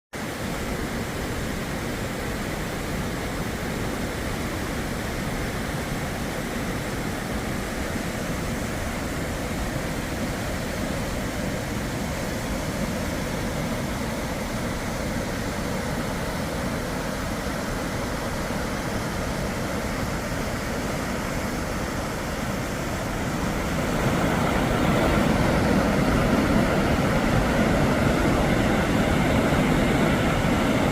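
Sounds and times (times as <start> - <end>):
waterfall rushing: 0.2 - 30.9.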